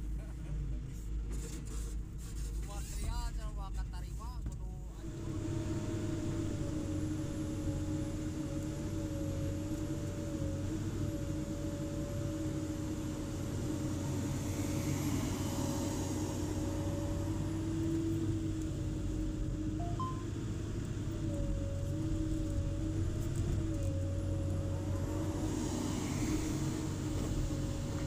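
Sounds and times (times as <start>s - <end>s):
excavator engine whining: 4.8s - 28.0s.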